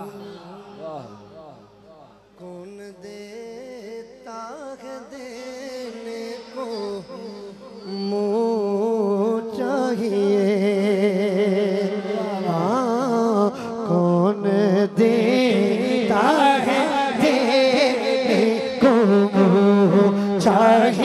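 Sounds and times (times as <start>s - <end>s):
man singing devotional melody: 0.0s - 21.0s.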